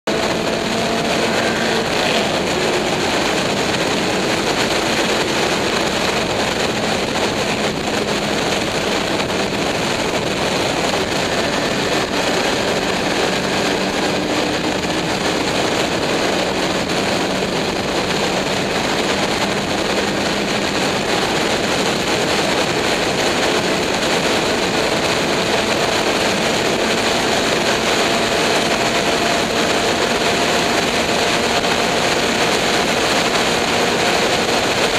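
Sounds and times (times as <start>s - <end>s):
race car engine running hard: 0.0s - 34.9s
wind rushing over microphone: 0.1s - 34.9s.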